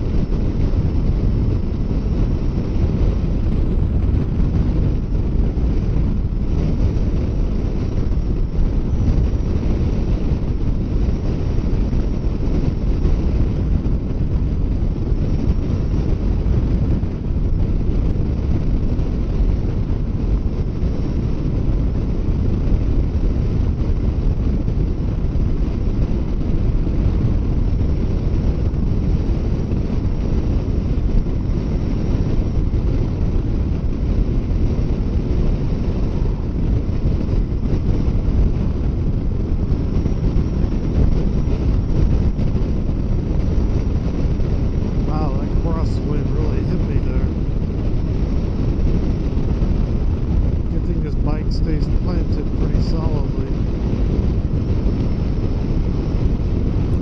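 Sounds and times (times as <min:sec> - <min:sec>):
motorcycle running: 0:00.0 - 0:57.0
wind rushing over microphone: 0:00.0 - 0:57.0.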